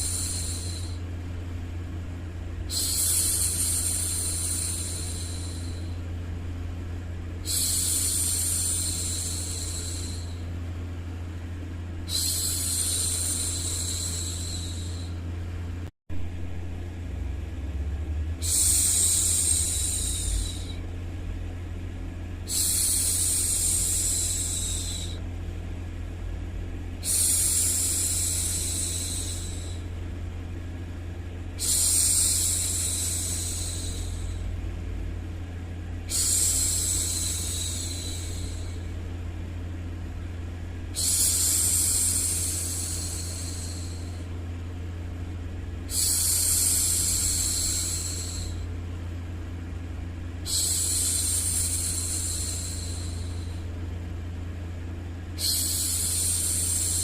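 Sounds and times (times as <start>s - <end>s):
low white noise: 0.0s - 57.0s.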